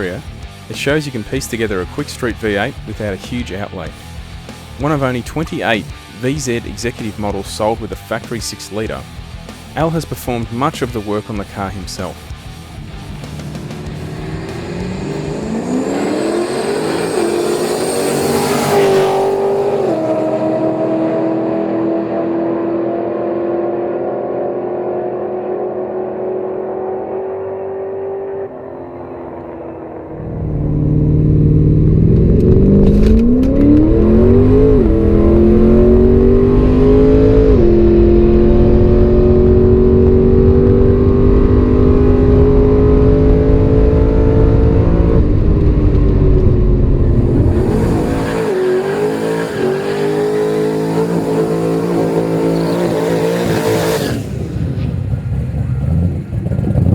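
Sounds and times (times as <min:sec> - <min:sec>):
car engine at full throttle: 0:00.0 - 0:56.9.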